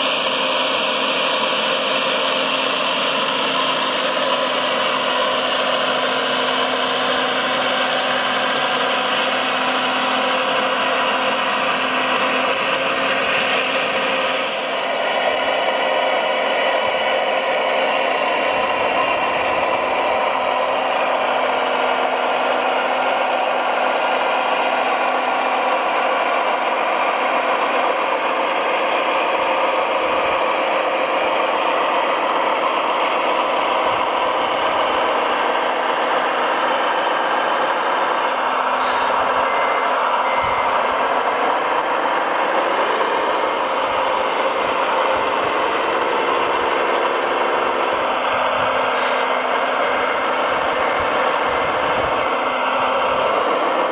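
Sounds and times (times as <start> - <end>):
model truck motor whining: 0.0 - 53.9.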